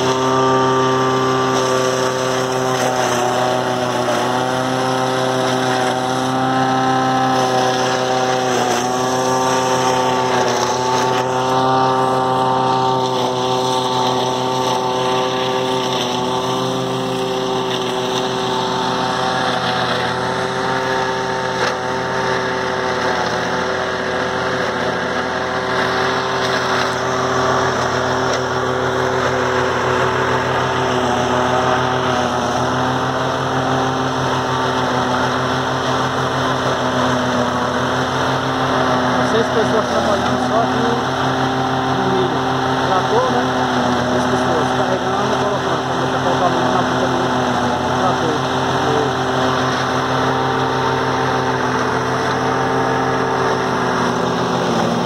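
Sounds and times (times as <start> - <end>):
forage chopper rushing: 0.0 - 55.0
tractor engine drone: 0.0 - 55.0.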